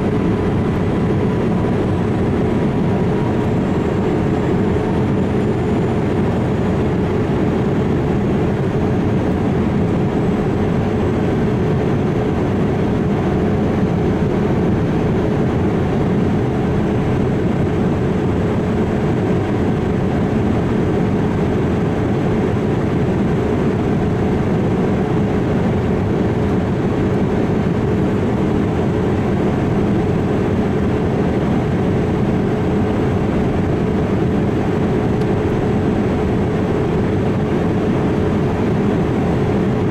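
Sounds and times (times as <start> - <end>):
airliner rumble with hum: 0.0 - 39.9.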